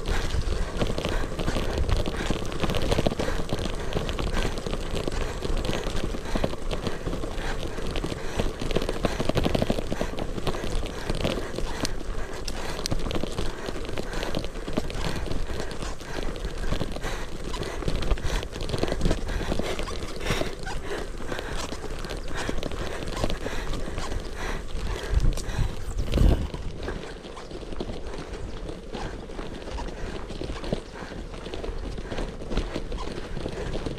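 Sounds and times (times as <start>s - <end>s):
bike rattling and clattering: 0.0s - 33.9s
wind noise: 0.0s - 33.9s.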